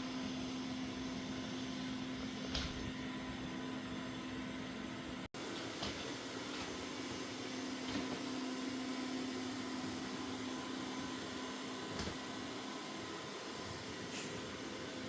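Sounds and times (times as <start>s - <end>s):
robot vacuum humming: 0.1s - 15.0s.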